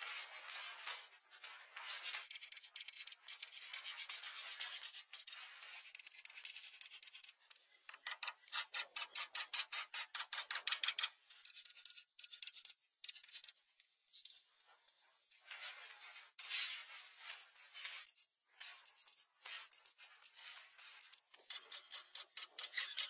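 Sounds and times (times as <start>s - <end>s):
oil pastel scratching on paper: 0.0s - 7.4s, 8.0s - 23.0s.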